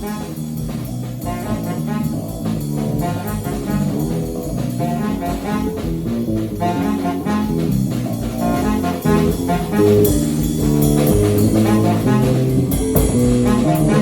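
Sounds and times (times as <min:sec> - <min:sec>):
bass and drums: 0:00.0 - 0:14.0
tenor saxophone melody: 0:00.0 - 0:14.0.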